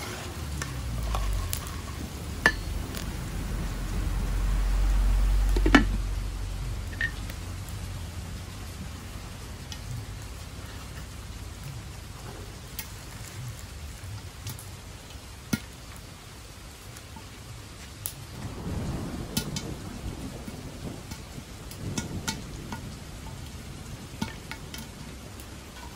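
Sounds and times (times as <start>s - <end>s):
popcorn kernels heating in oil: 0.0s - 25.9s
rain hissing: 0.0s - 25.9s.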